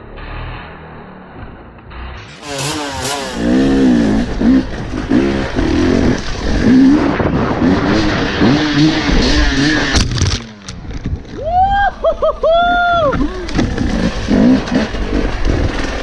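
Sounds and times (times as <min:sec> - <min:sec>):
dirt bike engine revving: 0:00.0 - 0:10.8, 0:13.3 - 0:16.0.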